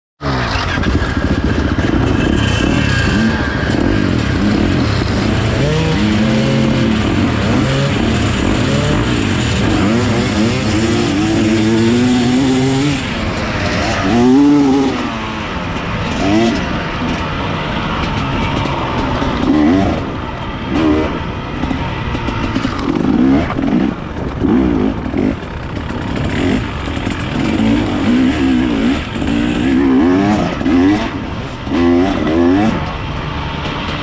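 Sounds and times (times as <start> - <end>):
dirt bike engines revving: 0.2 - 34.0.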